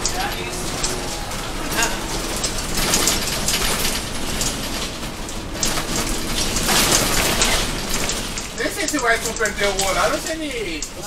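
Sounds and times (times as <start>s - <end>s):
bus engine and road rumble: 0.0s - 11.0s
bus hiss: 0.0s - 11.0s.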